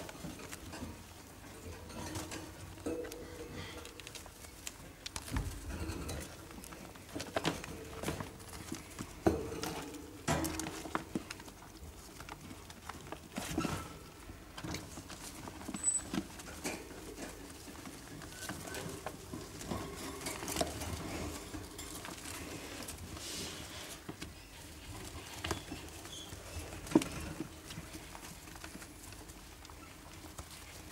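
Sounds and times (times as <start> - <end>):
rodents scurrying in bedding: 0.0 - 30.9.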